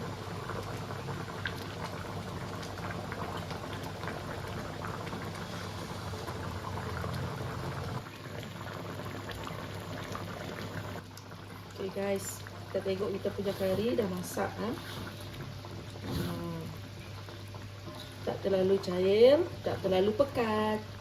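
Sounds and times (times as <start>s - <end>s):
curry bubbling in a pot: 0.0s - 21.0s.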